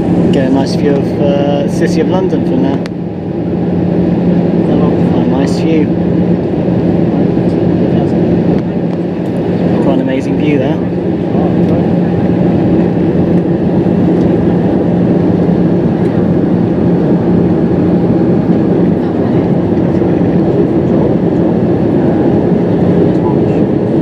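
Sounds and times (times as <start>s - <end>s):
airliner cabin drone: 0.0s - 24.0s
constant low hum: 0.0s - 24.0s.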